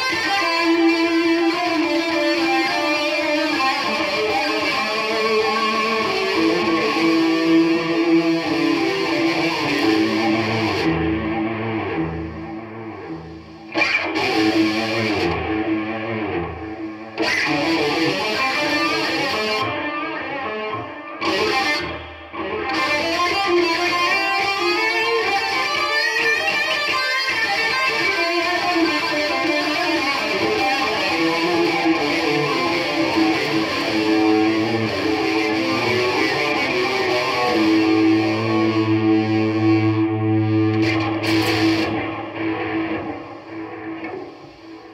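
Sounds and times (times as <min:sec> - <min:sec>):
electric guitar with delay: 0:00.0 - 0:44.9.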